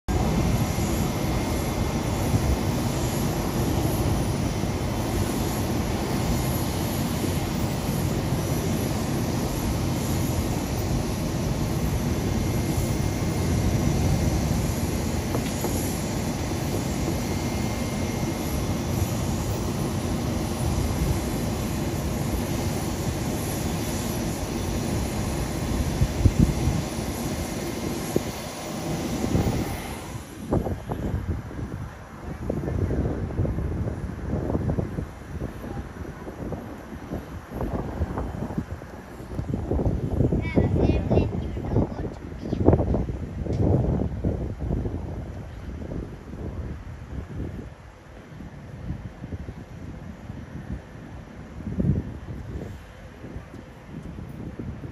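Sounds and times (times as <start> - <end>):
jet engine noise: 0.0 - 54.9
faint high whine: 0.1 - 54.9.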